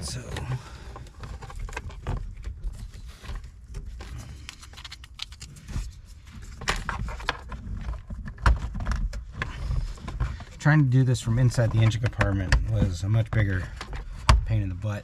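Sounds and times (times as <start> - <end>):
handling clicks and rustles: 0.0 - 15.0.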